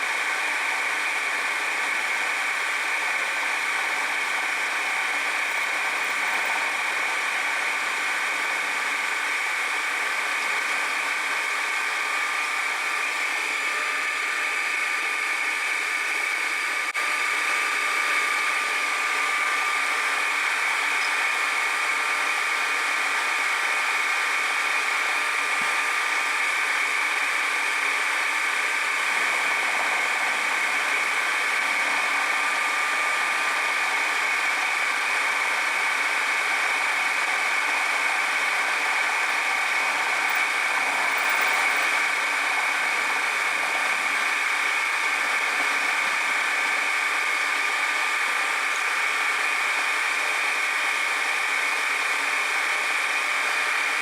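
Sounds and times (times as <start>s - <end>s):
power tool whirring with whine: 0.0s - 54.0s.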